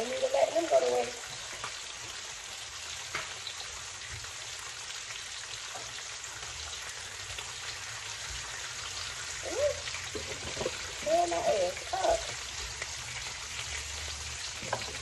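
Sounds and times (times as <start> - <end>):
bacon and sausage sizzling: 0.0 - 15.0.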